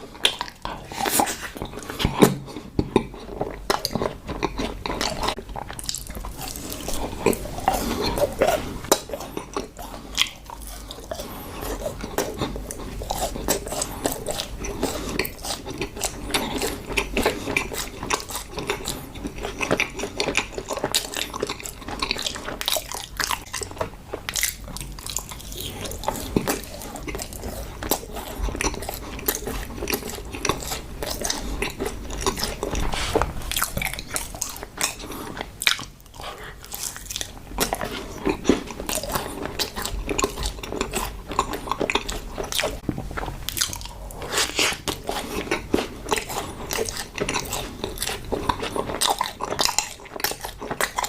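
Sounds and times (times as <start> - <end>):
crunchy chewing: 0.0 - 51.0.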